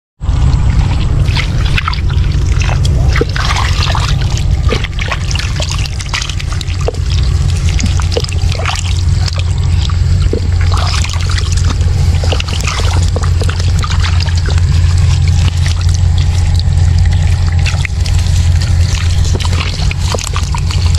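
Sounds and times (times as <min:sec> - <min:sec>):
low rumble: 0:00.2 - 0:20.9
shallow water splashing: 0:00.2 - 0:20.9.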